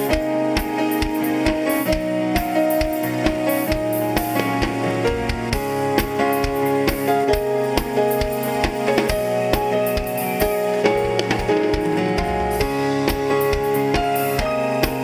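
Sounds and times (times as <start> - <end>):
drum kit beat: 0.0 - 15.0
keyboard chords: 0.0 - 15.0.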